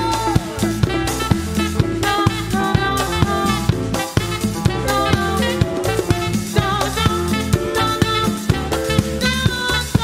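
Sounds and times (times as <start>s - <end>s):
live band playing house groove: 0.0s - 10.0s.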